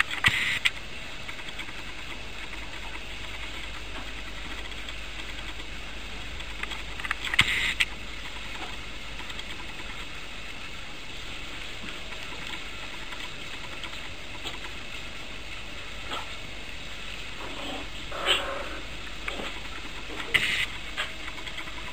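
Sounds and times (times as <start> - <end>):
steady hiss: 0.0 - 21.9.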